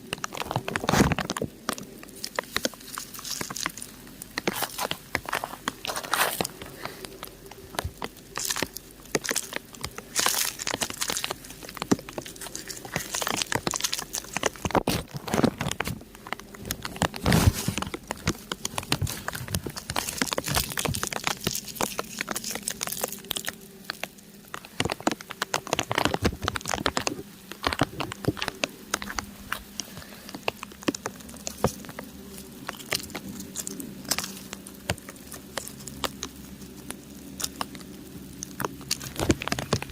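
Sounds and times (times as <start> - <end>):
rain pattering on rock: 0.0 - 39.9.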